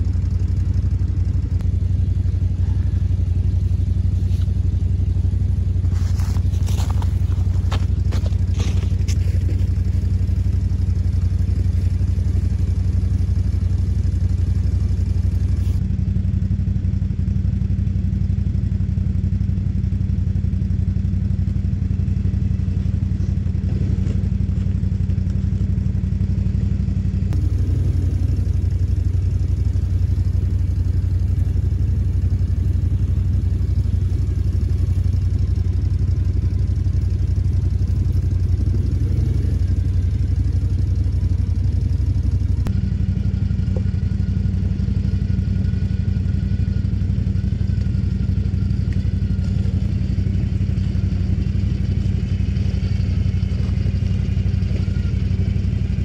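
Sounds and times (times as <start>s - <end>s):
engine running at low revs: 0.0s - 56.0s.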